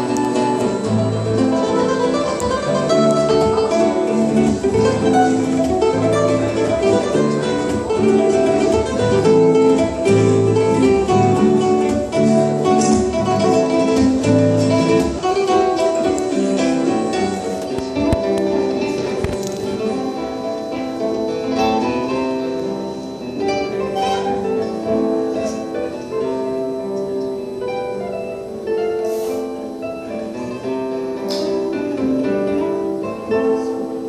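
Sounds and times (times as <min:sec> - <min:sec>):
acoustic guitars fingerpicking: 0:00.0 - 0:34.0.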